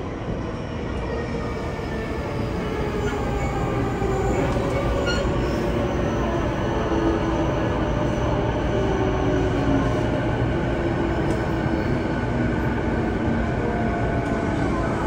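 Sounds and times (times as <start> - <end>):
train wheels rumbling on rail: 0.1 - 15.0.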